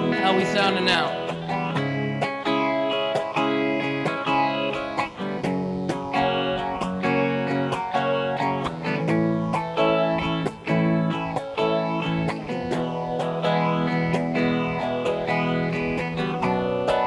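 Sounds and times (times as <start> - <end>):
guitar strumming chords: 0.0 - 17.0.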